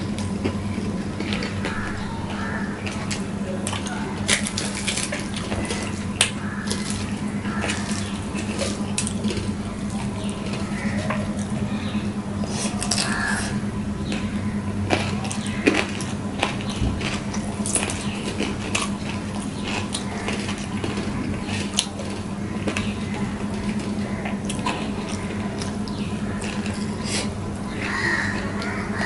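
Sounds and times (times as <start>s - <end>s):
chewing and wet mouth noises: 0.0s - 29.0s
steady low hum: 0.0s - 29.0s.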